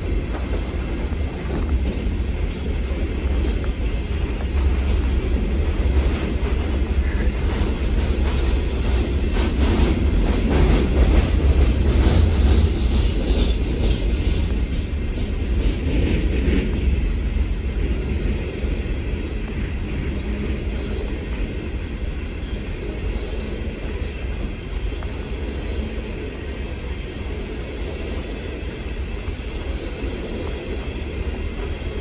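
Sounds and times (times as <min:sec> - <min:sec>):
train wheels rumbling on rail: 0:00.0 - 0:32.0
wheels clicking over rail joints: 0:00.0 - 0:32.0.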